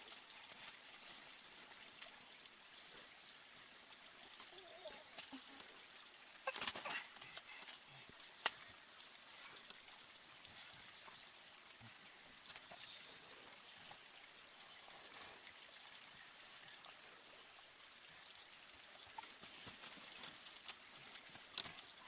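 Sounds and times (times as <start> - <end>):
soft steady hiss: 0.0 - 22.0.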